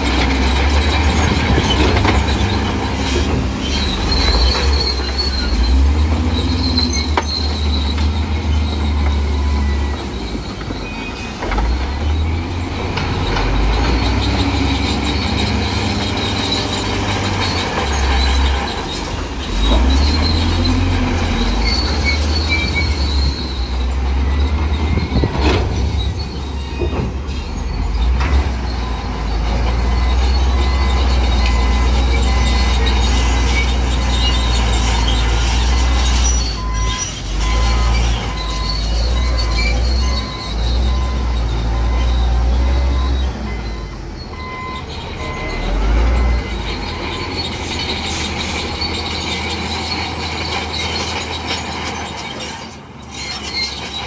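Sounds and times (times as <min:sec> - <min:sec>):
bulldozer diesel engine running: 0:00.0 - 0:54.0
steel tracks squealing: 0:00.0 - 0:54.0.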